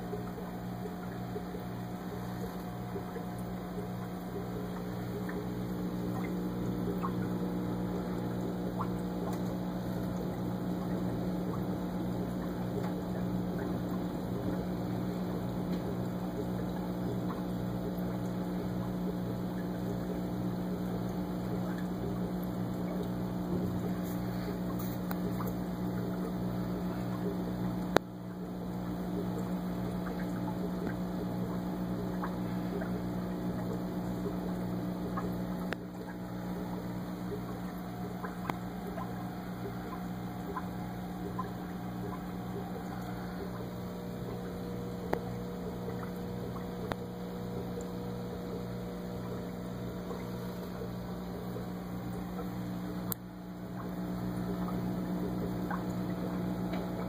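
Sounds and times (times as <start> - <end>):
air bubbling: 0.0 - 57.0
aquarium air pump humming: 0.0 - 57.0.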